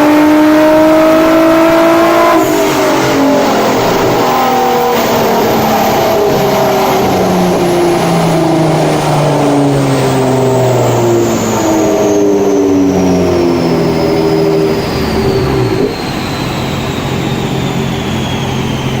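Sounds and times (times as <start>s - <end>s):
car engine running loud: 0.0s - 19.0s
thin high whine: 0.0s - 19.0s.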